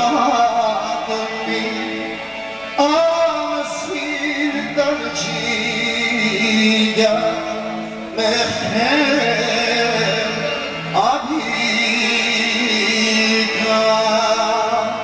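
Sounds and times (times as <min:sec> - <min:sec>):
accordion and band accompaniment: 0:00.0 - 0:15.0
man singing into a microphone: 0:00.0 - 0:15.0.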